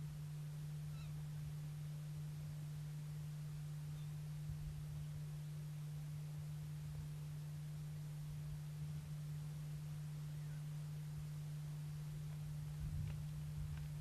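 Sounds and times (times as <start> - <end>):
faint hiss: 0.0 - 14.0
flickering low rumble: 0.0 - 14.0
steady low hum: 0.0 - 14.0.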